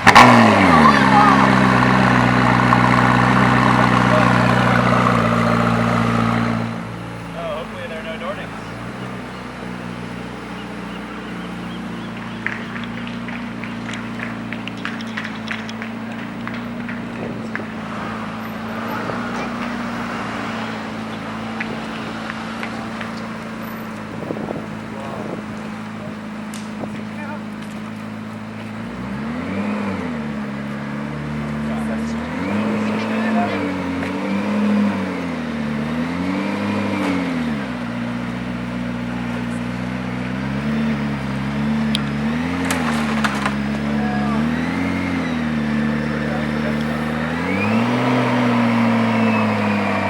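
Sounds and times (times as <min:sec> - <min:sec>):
car engine idling: 0:00.0 - 0:34.3, 0:37.3 - 0:50.0.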